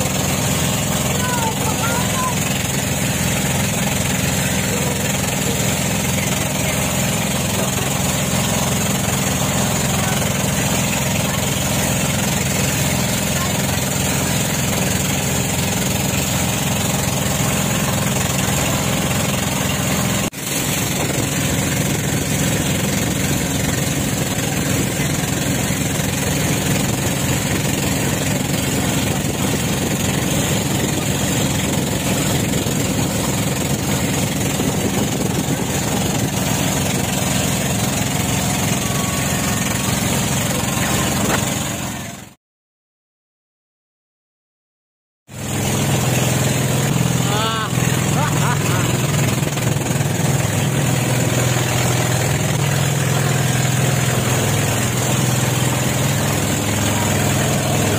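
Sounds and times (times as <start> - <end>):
engine running steadily: 0.0 - 42.4, 45.3 - 57.9.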